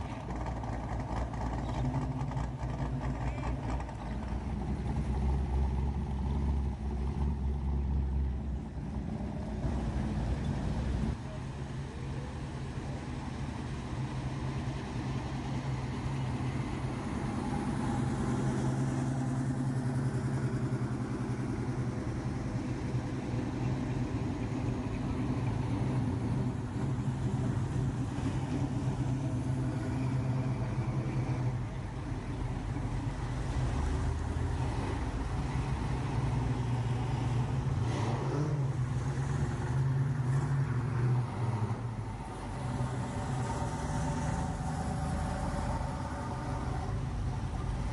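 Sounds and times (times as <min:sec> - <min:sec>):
car engine running at low revs: 0:00.0 - 0:47.9.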